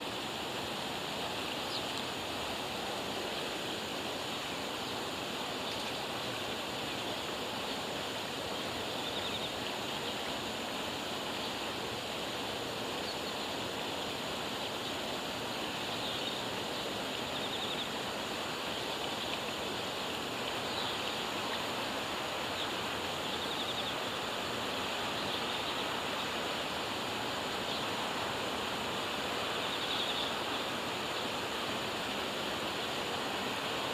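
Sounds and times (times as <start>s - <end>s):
rushing water: 0.0s - 33.9s.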